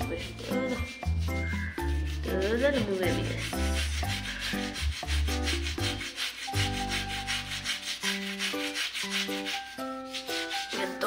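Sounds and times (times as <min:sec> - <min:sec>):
toothbrush scrubbing tile grout: 0:00.0 - 0:11.0.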